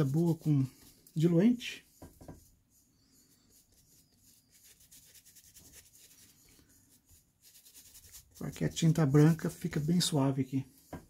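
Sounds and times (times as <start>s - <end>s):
brush scrubbing canvas: 0.0s - 11.0s.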